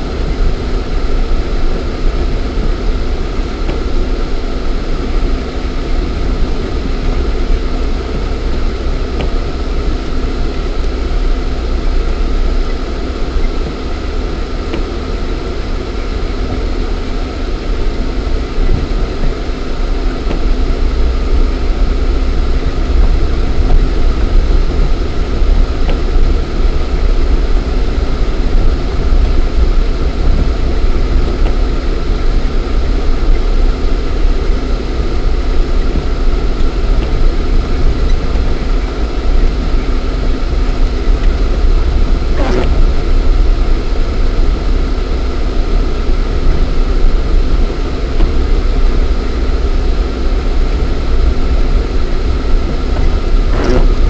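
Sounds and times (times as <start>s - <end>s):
car engine rumbling in cabin: 0.0s - 54.0s.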